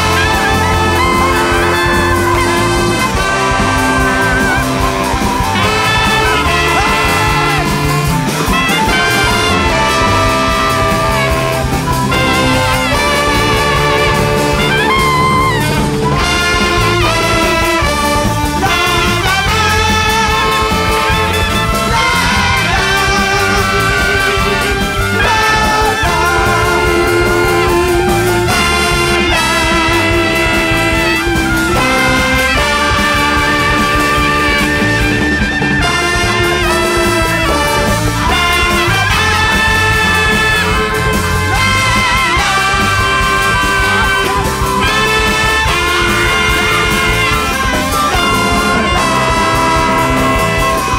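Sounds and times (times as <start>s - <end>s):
jazz big band playing: 0.0s - 50.9s
saxophones and trumpet melody: 0.0s - 50.9s.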